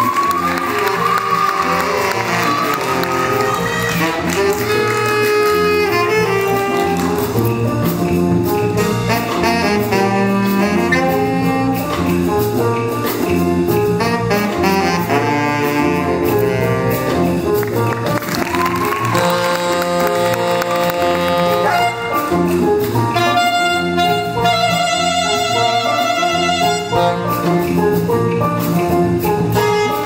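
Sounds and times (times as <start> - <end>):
saxophone solo: 0.0 - 7.6, 8.7 - 12.3, 13.9 - 27.7, 29.6 - 30.0
jazz band playing: 0.0 - 30.0.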